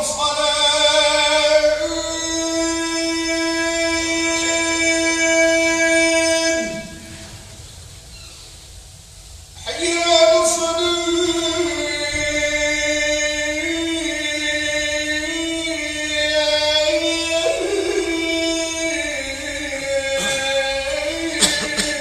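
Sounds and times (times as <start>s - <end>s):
man chanting call to prayer: 0.0s - 7.6s, 9.6s - 22.0s.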